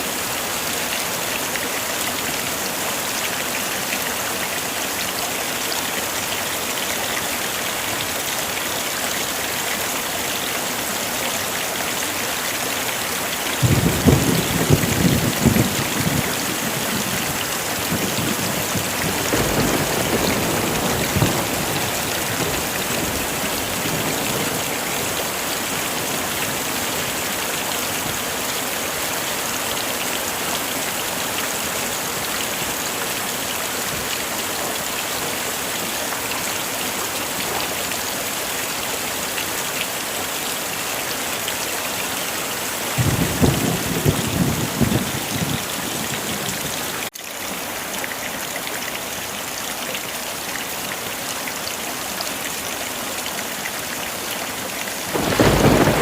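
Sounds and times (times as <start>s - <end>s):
heavy rain hissing: 0.0s - 47.1s, 53.8s - 56.0s.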